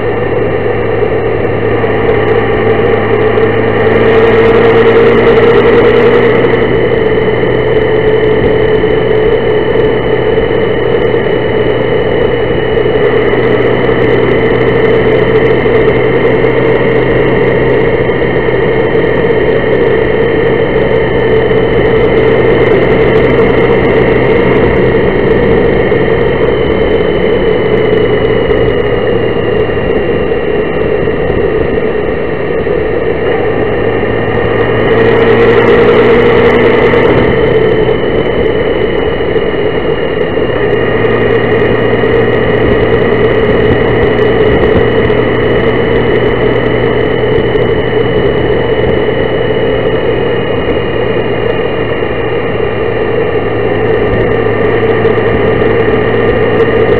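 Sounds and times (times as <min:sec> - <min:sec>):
motorcycle engine drone: 0:00.0 - 0:56.9
road noise: 0:00.0 - 0:56.9.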